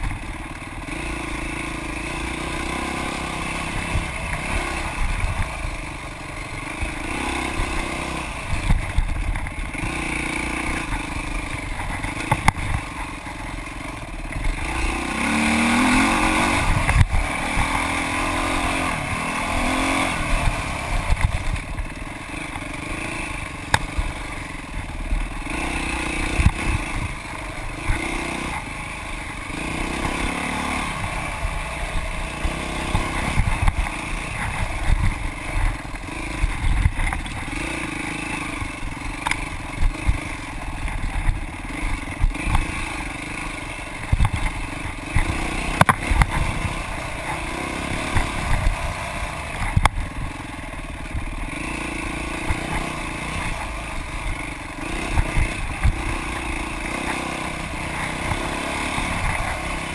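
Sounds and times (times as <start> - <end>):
bike rattling over bumps: 0.0 - 59.9
dirt bike engine revving: 0.0 - 59.9.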